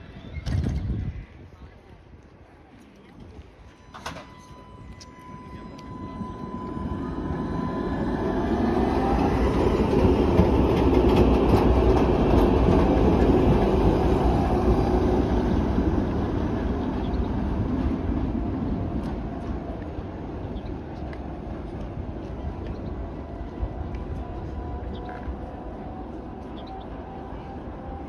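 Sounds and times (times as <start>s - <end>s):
tram wheels running on rails: 3.2s - 28.0s
tram motor whine rising: 3.7s - 28.0s.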